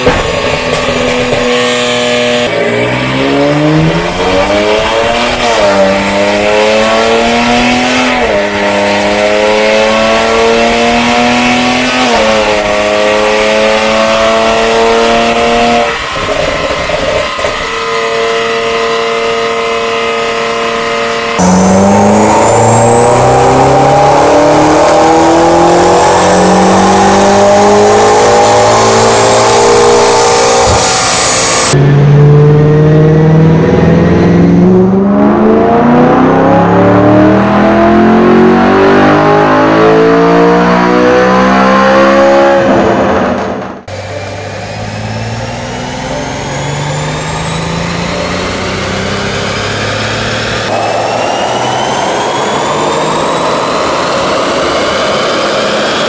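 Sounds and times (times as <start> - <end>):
car engine under full load: 0.0 - 56.0
second car engine revving: 0.0 - 56.0.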